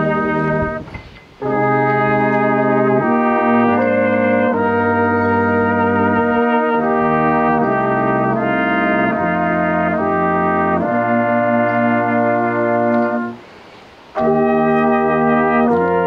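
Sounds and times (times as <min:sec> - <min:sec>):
brass band playing slow chords: 0:00.0 - 0:16.0.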